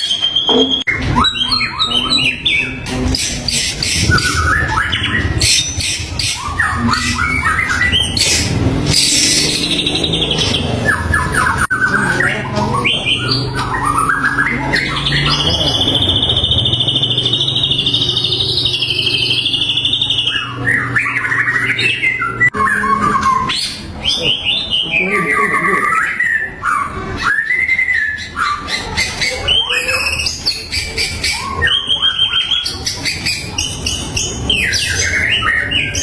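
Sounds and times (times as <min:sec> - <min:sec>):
bird rapid trill: 0:00.0 - 0:36.0
bird singing whistled phrases: 0:00.0 - 0:36.0.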